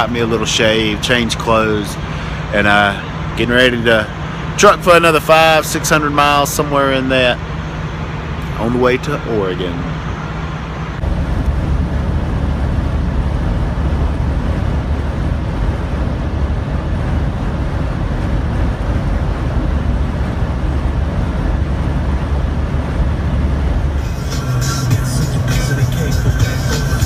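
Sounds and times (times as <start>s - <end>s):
diesel truck engine drone: 0.0s - 27.0s
road noise: 0.0s - 27.0s.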